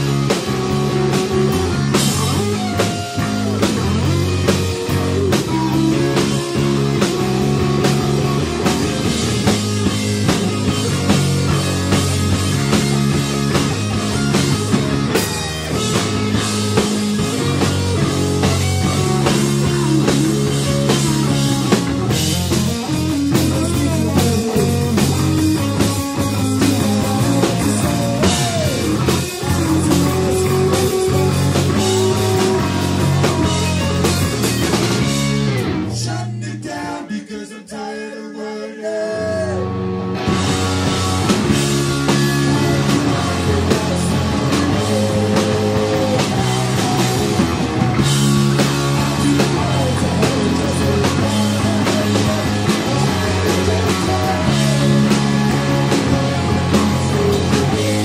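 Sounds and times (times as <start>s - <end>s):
electric guitar: 0.0s - 36.4s, 39.0s - 58.0s
bass guitar: 0.0s - 37.1s, 39.0s - 58.0s
drums: 0.0s - 37.1s, 39.2s - 58.0s.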